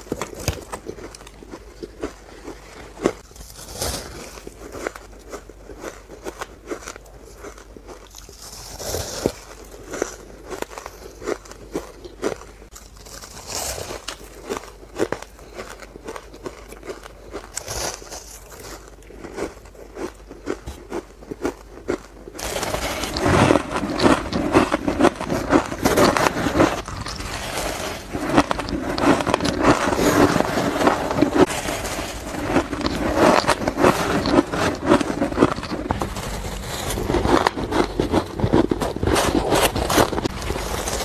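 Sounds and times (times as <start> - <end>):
chewing shaved ice crunches: 0.0 - 41.0.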